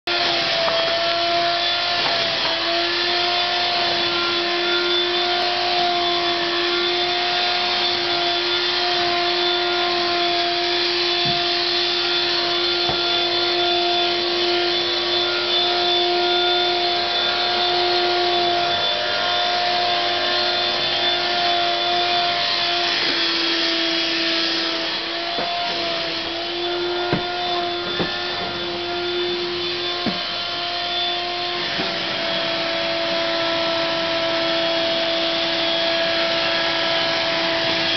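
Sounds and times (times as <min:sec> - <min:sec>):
vacuum cleaner whine: 0:00.1 - 0:37.9.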